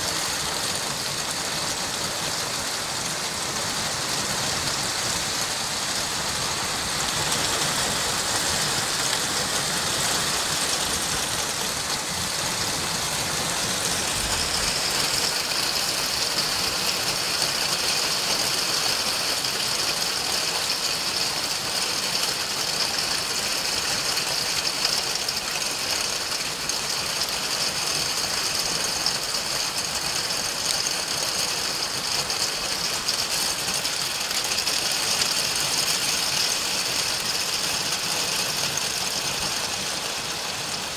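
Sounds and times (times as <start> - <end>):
heavy rain and hail: 0.0 - 40.9.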